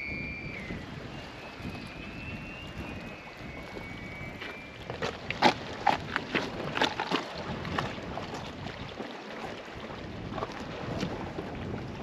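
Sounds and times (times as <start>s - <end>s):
sea washing on rocky shore: 0.0s - 12.0s
wind buffeting microphone: 0.0s - 12.0s.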